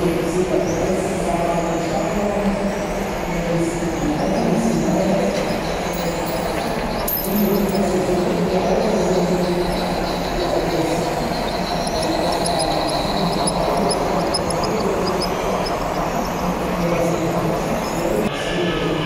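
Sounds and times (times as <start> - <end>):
model train electric hum: 0.0 - 18.3
wheel noise on rails: 0.0 - 18.3.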